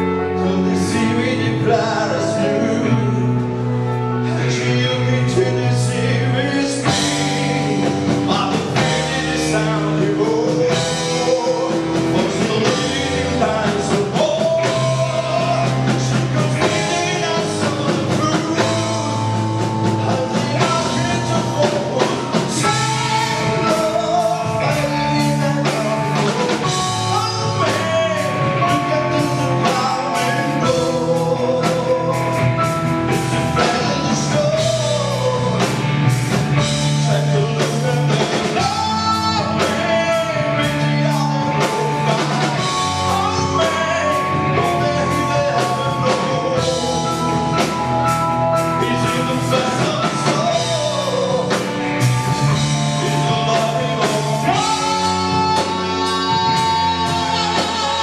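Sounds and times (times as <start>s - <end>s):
drum kit: 0.0s - 58.0s
electric guitars: 0.0s - 58.0s
man singing lead: 0.0s - 58.0s.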